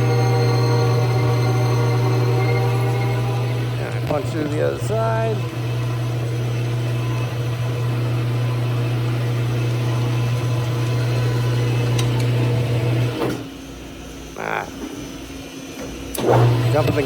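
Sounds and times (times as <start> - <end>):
metal lathe motor running: 0.0 - 17.0.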